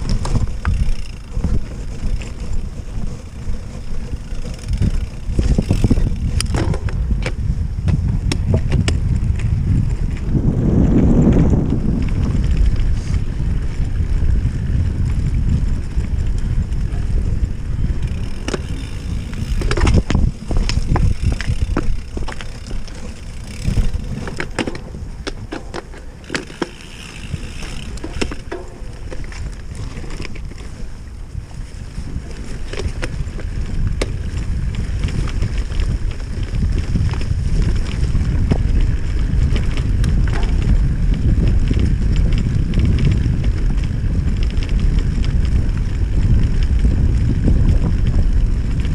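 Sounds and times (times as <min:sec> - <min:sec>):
bike rattling over rough ground: 0:00.0 - 0:48.9
bike tyres rumbling on grass: 0:00.0 - 0:48.9
wind buffeting microphone: 0:00.0 - 0:48.9.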